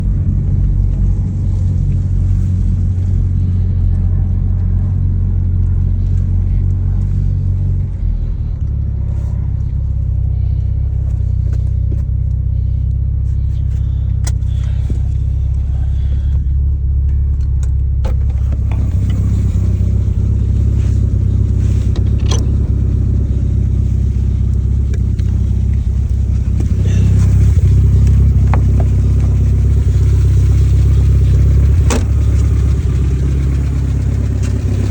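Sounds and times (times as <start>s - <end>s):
car engine knocking: 0.0s - 34.9s.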